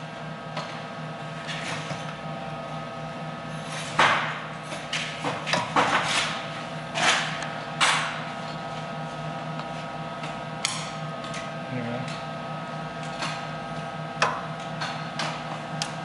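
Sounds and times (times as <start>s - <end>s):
welding power supply hum: 0.0s - 16.0s.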